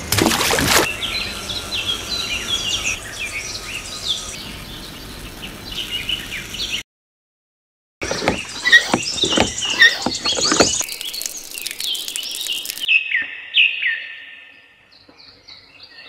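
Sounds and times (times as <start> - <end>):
birds chirping: 0.8 - 6.8, 8.0 - 16.0.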